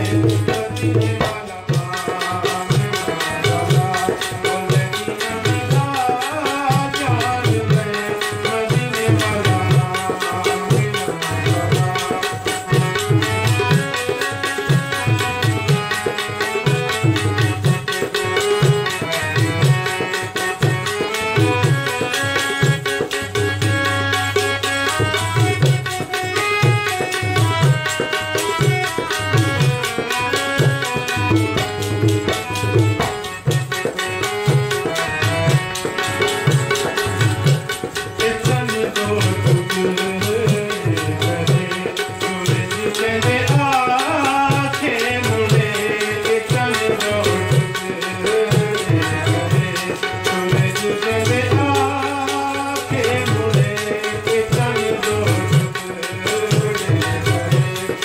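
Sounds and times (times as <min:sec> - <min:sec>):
harmonium melody: 0:00.0 - 0:58.0
tabla beat: 0:00.0 - 0:58.0.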